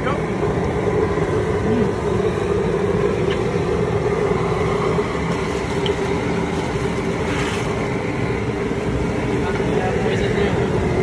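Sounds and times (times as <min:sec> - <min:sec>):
gas burner rumbling: 0:00.0 - 0:11.0.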